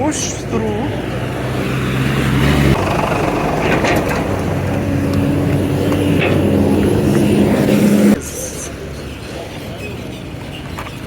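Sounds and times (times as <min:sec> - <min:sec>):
heavy vehicle engine running: 0:00.0 - 0:10.6
street traffic: 0:00.0 - 0:11.0.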